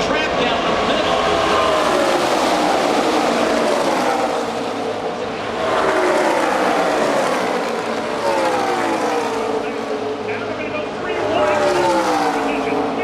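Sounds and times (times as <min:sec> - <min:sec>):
race cars passing at full throttle: 0:00.0 - 0:13.0.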